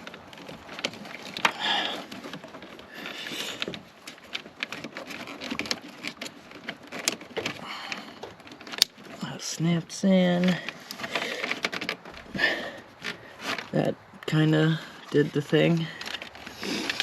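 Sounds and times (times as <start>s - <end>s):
rustling scrapes: 0.0s - 17.0s.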